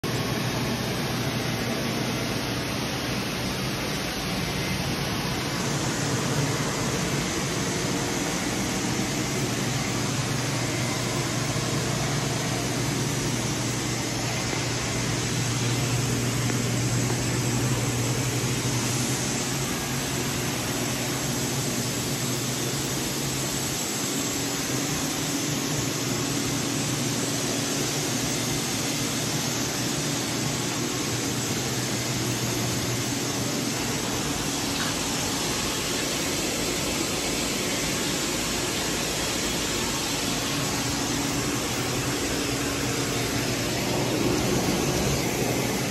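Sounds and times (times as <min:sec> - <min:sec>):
faint high whine: 0:00.0 - 0:45.9
ventilation rush: 0:00.0 - 0:45.9
machinery low drone: 0:00.1 - 0:45.9.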